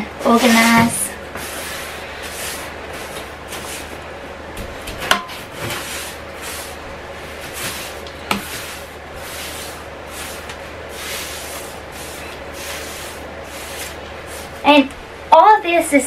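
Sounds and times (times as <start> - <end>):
broom sweeping a hard floor: 0.2 - 4.0, 4.6 - 14.9.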